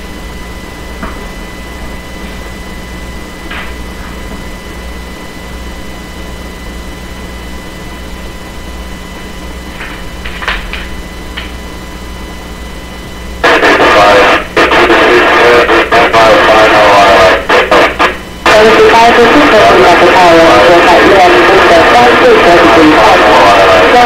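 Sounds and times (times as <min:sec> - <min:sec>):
high whine: 0:00.0 - 0:24.0
hum and hiss: 0:00.0 - 0:24.0.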